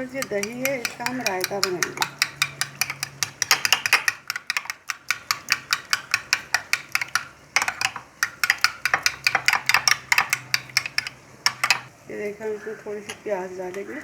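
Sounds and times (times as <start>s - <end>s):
spoon clicking against bowl: 0.0s - 11.9s.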